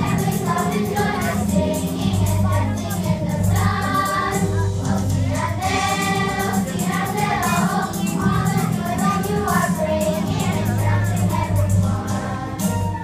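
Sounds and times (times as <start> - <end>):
children's choir singing: 0.0 - 13.0.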